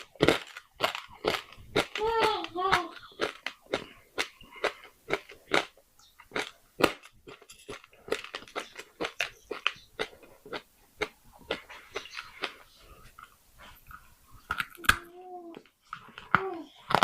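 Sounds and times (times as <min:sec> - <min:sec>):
crunching of clay pieces being chewed: 0:00.0 - 0:15.0, 0:15.9 - 0:17.0.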